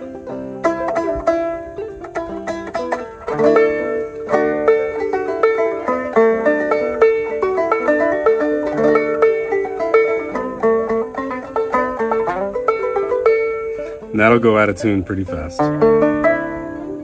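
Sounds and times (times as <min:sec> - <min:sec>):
banjo plucked tune: 0:00.0 - 0:17.0.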